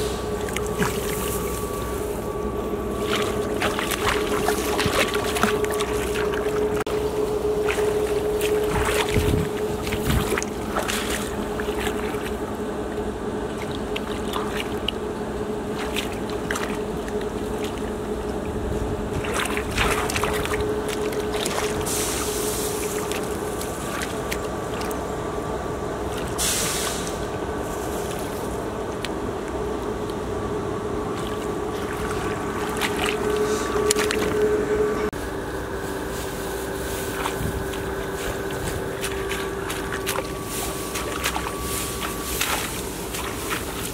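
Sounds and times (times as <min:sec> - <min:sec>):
muddy water splashing: 0:00.0 - 0:43.9
steady hum: 0:00.0 - 0:43.9.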